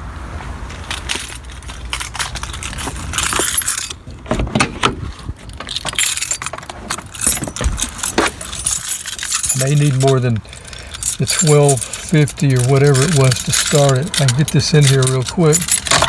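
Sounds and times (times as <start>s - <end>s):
keys jangling: 0.7s - 4.0s, 5.4s - 16.0s.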